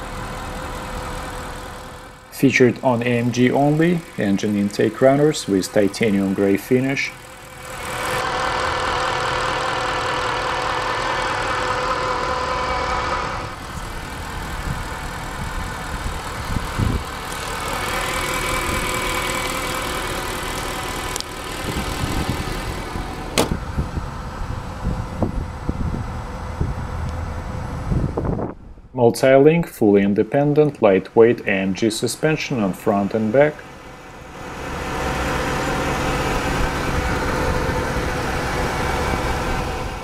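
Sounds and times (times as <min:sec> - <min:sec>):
car engine idling: 0:00.0 - 0:28.6, 0:30.2 - 0:40.0.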